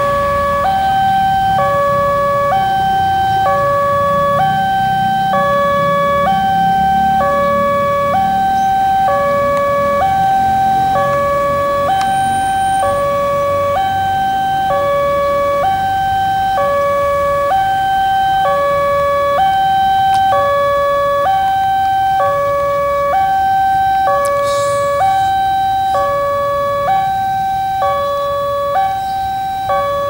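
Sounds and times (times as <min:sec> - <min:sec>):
two-tone warning siren: 0:00.0 - 0:30.0.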